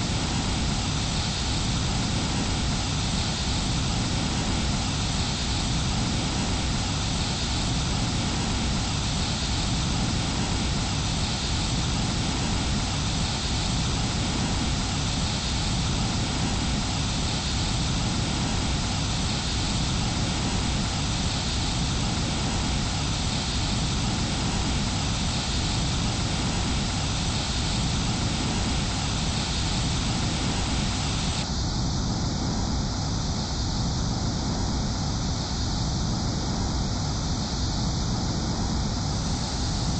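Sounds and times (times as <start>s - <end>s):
rushing air: 0.0s - 39.9s.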